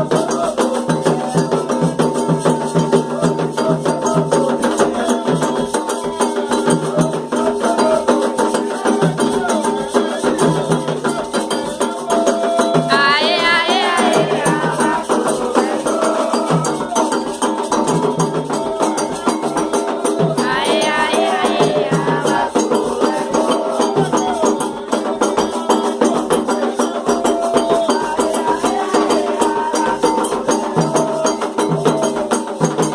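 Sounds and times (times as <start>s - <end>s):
fast dense percussion: 0.0s - 32.9s
shakers: 0.0s - 32.9s
voices singing: 0.0s - 32.9s.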